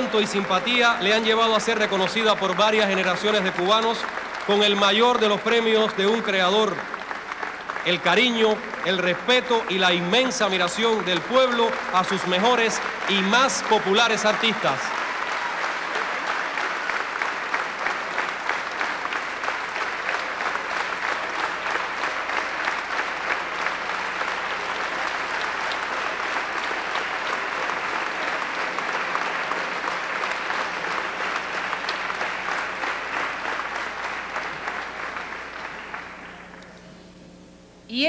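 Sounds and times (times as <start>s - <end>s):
audience applauding: 0.0s - 36.9s.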